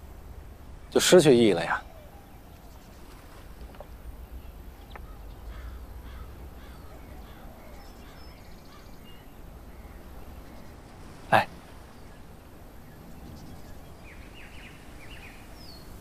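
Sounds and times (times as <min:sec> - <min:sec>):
low outdoor rumble: 0:00.0 - 0:16.0
faint bird chirps: 0:00.9 - 0:16.0.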